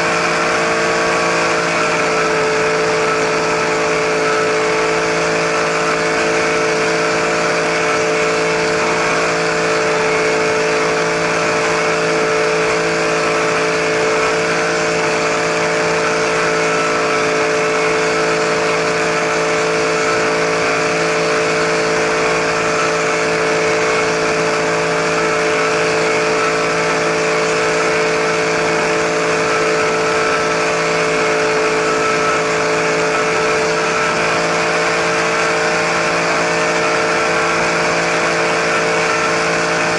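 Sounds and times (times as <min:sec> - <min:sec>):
helicopter rotor whine: 0:00.0 - 0:39.9.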